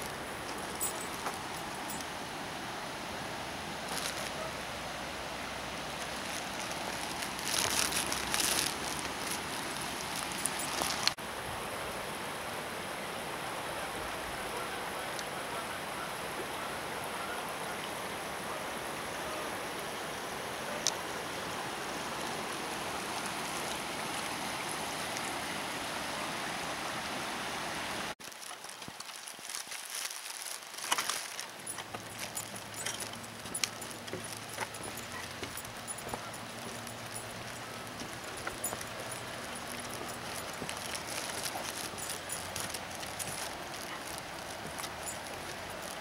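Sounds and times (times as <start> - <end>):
creek water running: 0.0 - 46.0.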